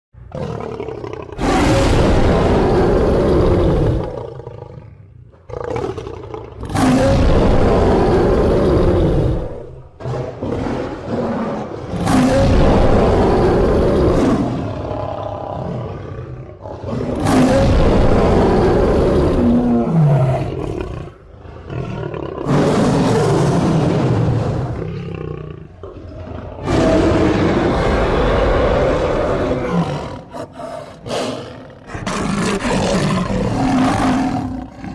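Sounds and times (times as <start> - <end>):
lion roaring: 0.3 - 34.9.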